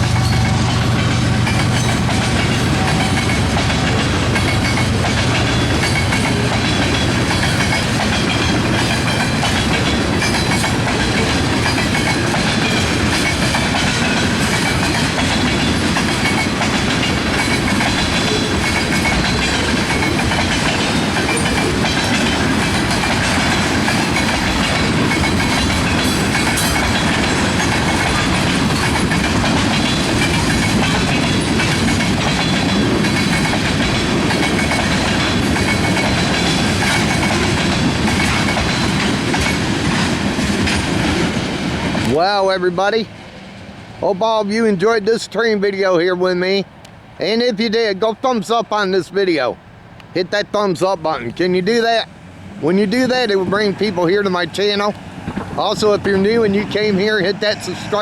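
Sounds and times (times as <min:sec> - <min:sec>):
steel wheels rolling on rail: 0:00.0 - 0:45.8, 0:46.6 - 0:58.0.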